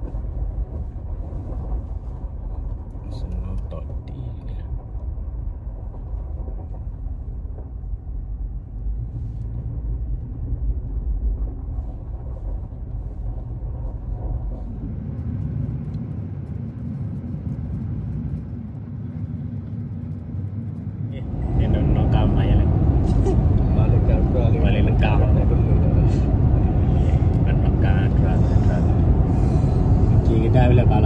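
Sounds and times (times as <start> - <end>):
vehicle engine rumble from inside: 0.0 - 31.0.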